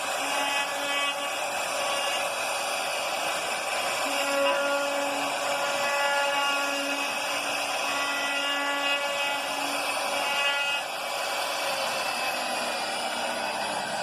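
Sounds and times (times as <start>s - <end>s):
pitched whine: 0.0s - 14.0s
router spindle whirring hiss: 0.0s - 14.0s.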